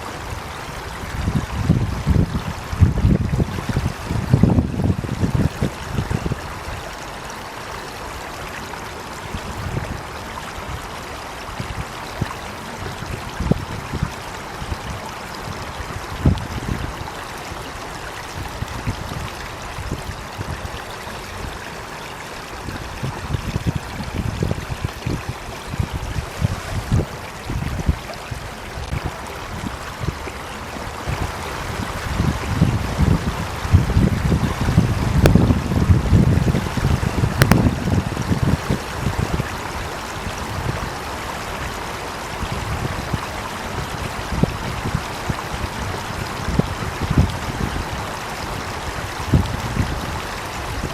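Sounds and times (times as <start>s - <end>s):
running water flowing: 0.0s - 50.9s.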